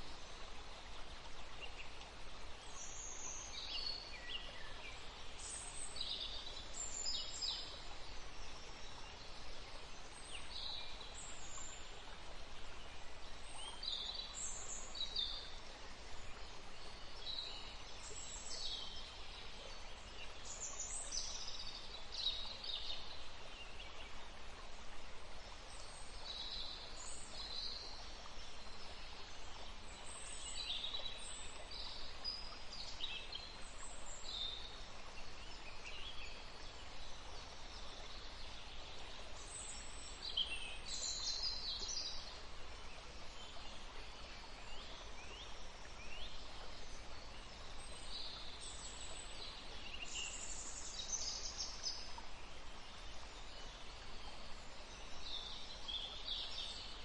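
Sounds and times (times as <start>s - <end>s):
faint steady hiss: 0.0s - 57.0s
forest birds chirping: 0.0s - 57.0s.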